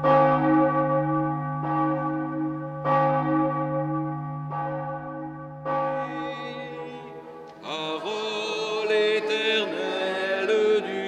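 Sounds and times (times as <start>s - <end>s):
church bell tolling: 0.0s - 11.0s.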